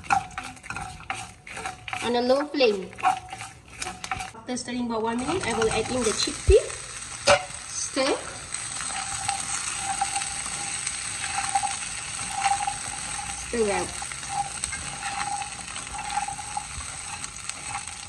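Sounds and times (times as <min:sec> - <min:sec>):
chickpeas sizzling in oil: 0:00.0 - 0:18.0
spatula scraping wok: 0:00.0 - 0:18.0.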